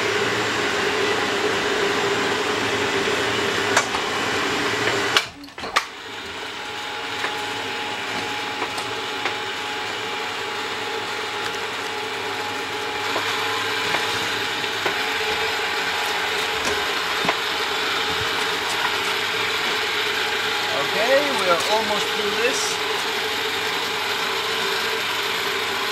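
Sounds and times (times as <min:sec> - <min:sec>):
electric winch humming: 0:00.0 - 0:25.9.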